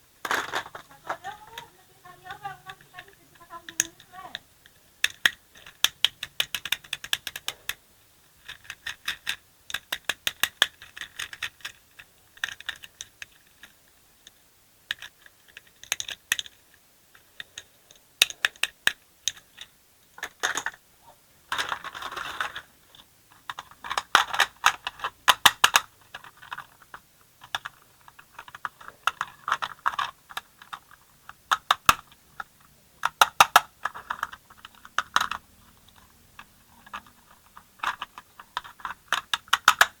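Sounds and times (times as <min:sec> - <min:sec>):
plastic toy parts clicking: 0:00.2 - 0:20.8, 0:21.5 - 0:40.0.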